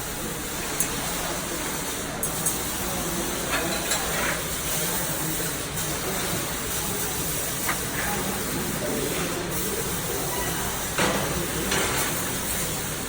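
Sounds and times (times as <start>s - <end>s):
arc welding sizzling hiss: 0.0s - 13.0s.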